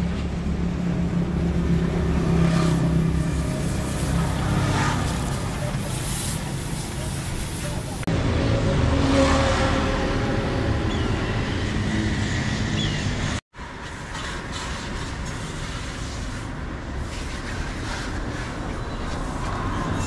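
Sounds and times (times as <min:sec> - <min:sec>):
road traffic passing: 0:00.0 - 0:20.0
vehicle engine rumble: 0:00.0 - 0:20.0.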